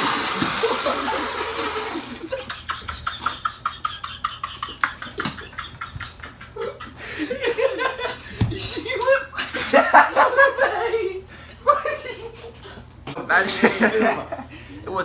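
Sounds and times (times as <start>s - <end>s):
people laughing hard: 0.5s - 14.8s.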